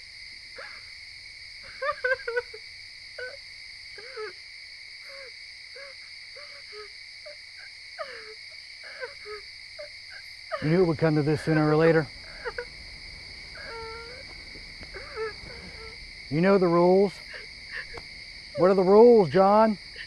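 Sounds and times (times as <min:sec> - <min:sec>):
shrill insect chorus: 0:00.0 - 0:20.0.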